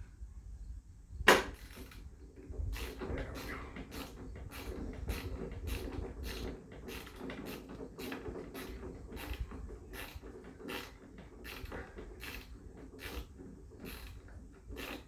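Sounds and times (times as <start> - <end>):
rhythmic creak of screw turning: 1.5 - 15.0.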